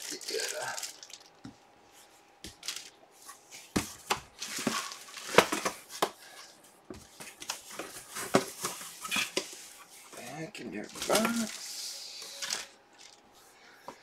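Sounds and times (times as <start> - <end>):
plastic bag rustling: 0.0 - 13.2.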